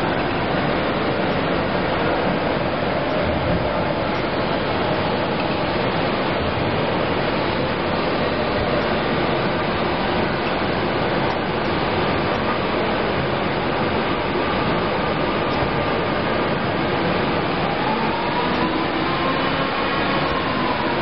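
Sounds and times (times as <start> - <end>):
faint steady hum: 0.0 - 21.0
machine belts and rollers rushing: 0.0 - 21.0.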